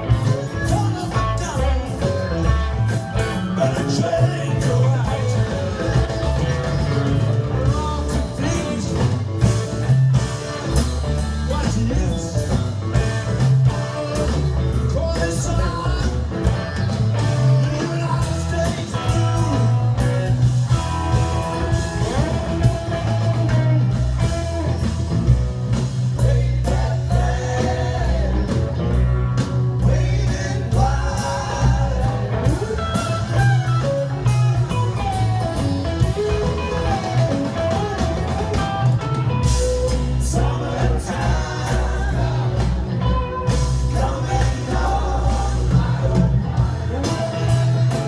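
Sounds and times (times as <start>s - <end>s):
man singing: 0.0s - 9.8s, 11.2s - 24.9s, 26.0s - 33.8s, 39.7s - 48.0s
live rock band playing: 0.0s - 48.0s.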